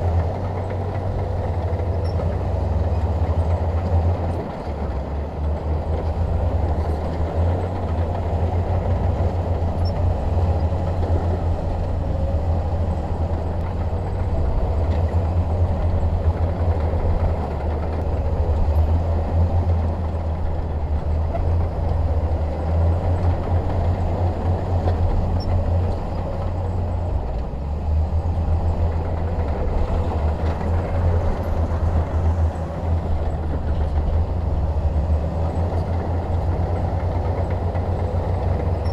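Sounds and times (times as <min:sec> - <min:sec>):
bulldozer diesel engine rumbling: 0:00.0 - 0:38.9.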